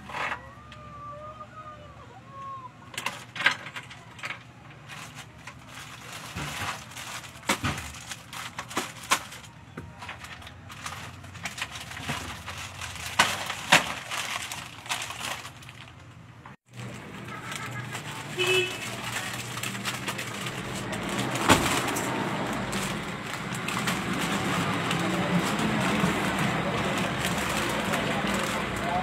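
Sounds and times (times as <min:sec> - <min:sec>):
plastic packets crinkling: 0:04.8 - 0:29.0.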